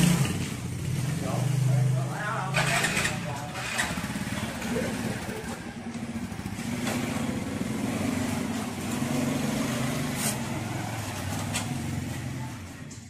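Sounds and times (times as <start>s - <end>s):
small motorbike engines: 0.0s - 13.0s.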